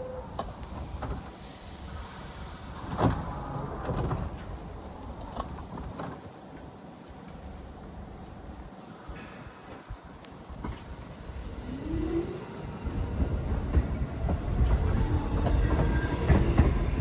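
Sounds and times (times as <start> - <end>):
low rumble of standing train: 0.0 - 17.0
subway doors sliding shut: 0.0 - 17.0.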